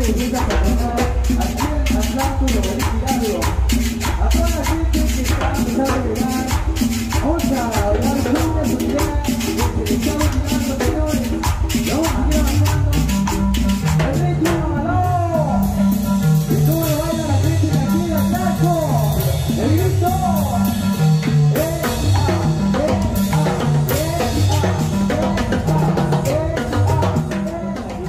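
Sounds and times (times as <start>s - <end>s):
live cumbia band: 0.0s - 28.0s.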